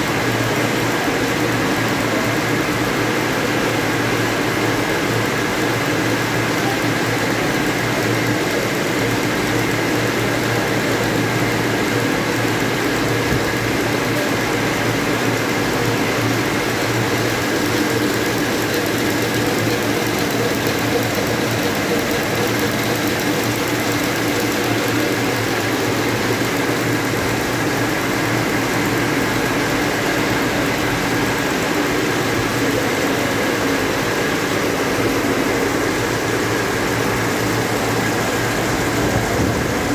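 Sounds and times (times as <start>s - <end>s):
looms running: 0.1s - 39.9s.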